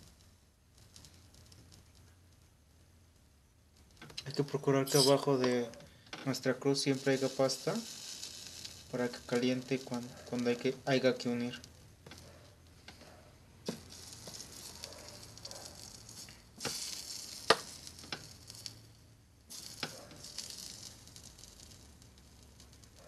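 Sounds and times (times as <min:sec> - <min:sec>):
soldering iron sizzling: 0:00.0 - 0:02.6, 0:03.8 - 0:23.0.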